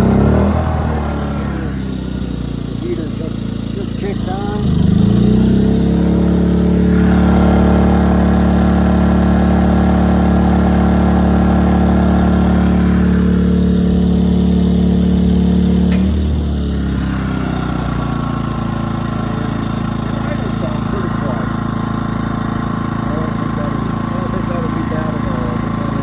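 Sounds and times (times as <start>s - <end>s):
generator engine running: 0.0s - 26.0s.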